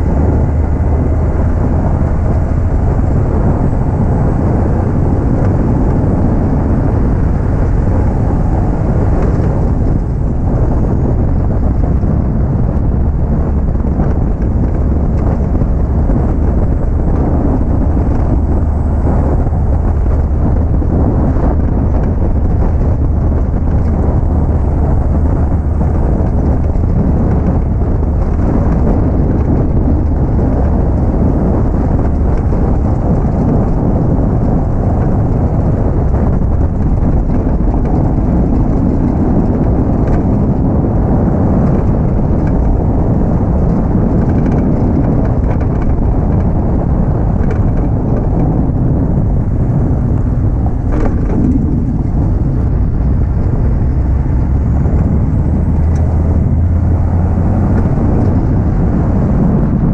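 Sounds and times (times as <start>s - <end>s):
vehicle underbody rumble: 0.0s - 59.9s
faint rattles: 2.0s - 59.6s.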